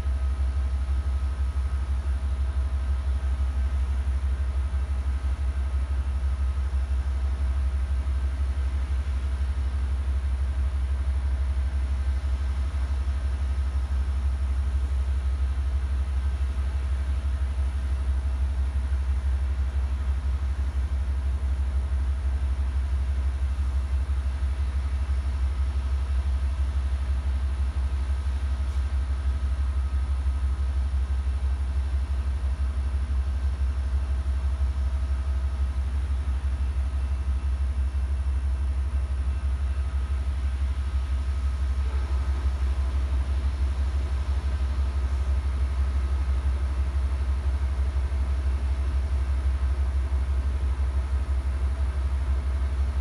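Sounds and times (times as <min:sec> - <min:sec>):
faint constant tones: 0:00.0 - 0:53.0
train idling rumble: 0:05.0 - 0:53.0.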